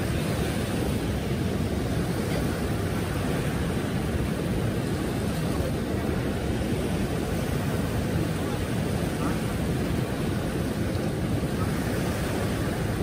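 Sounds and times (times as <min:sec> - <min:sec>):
river waves breaking on shore: 0:00.0 - 0:13.0.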